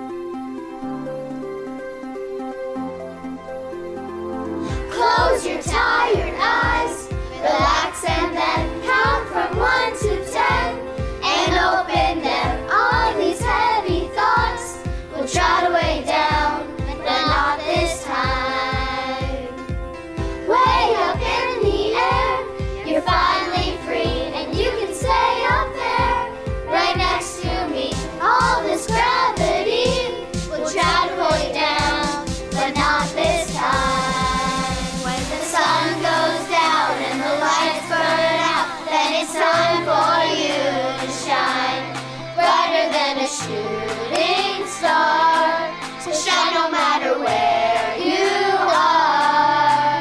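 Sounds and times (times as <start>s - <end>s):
backing music with steady beat: 0.0s - 50.0s
instrumental accompaniment: 0.0s - 50.0s
children singing together: 4.6s - 19.6s, 20.4s - 50.0s.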